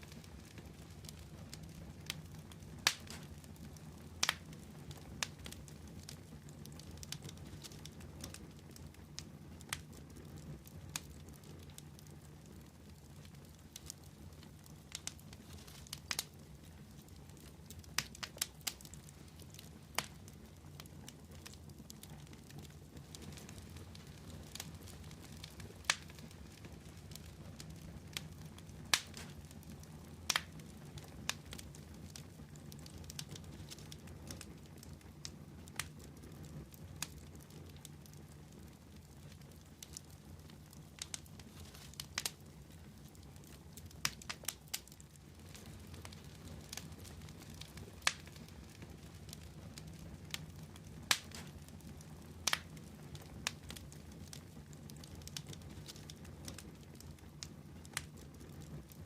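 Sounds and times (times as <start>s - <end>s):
fire crackling and popping: 0.0s - 59.0s
low rumble of burning: 0.0s - 59.0s.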